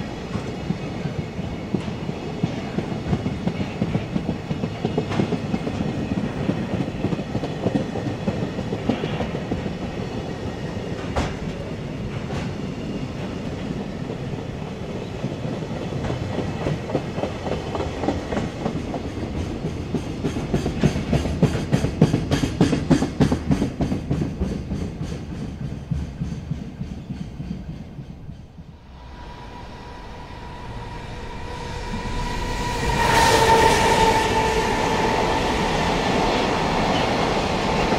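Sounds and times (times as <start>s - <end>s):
freight train rumble: 0.0s - 37.9s.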